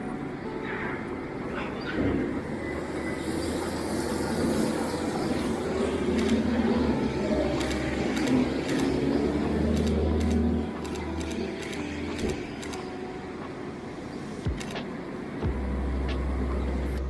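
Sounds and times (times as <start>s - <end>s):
city traffic passing: 0.0s - 17.0s.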